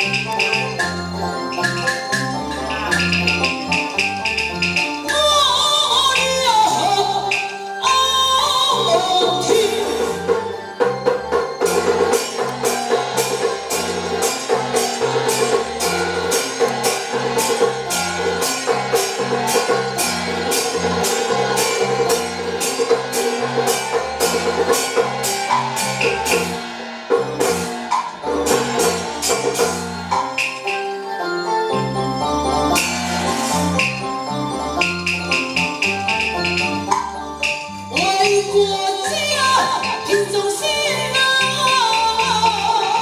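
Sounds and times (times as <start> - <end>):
opera band instrumental: 0.0 - 43.0
percussion beat: 0.0 - 43.0.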